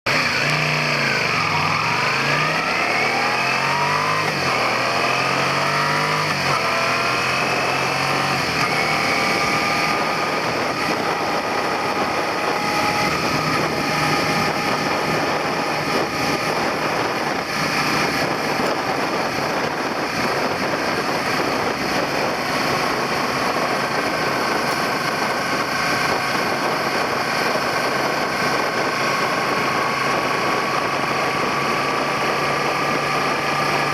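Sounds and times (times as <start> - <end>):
motorcycle engine accelerating: 0.1 - 33.9
road and wind noise: 0.1 - 33.9.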